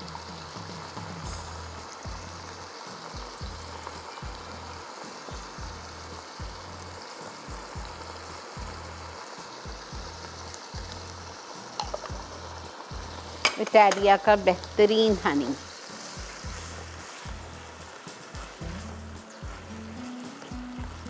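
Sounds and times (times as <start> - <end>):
onions sizzling in a pot: 0.0 - 21.0.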